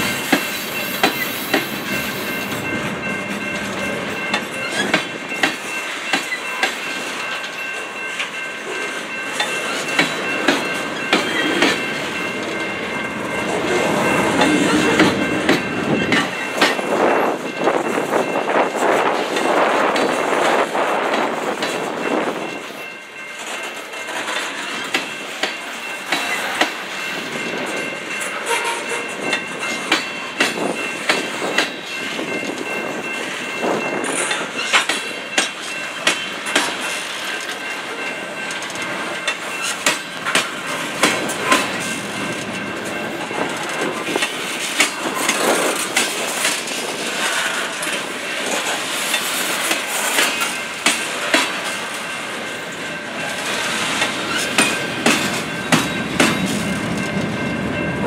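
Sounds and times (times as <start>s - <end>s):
train wheels clacking over rail joint: 0.0s - 2.8s, 3.4s - 12.6s, 13.4s - 22.6s, 23.4s - 52.0s, 53.2s - 57.4s
rumble of passing freight cars: 0.0s - 58.0s.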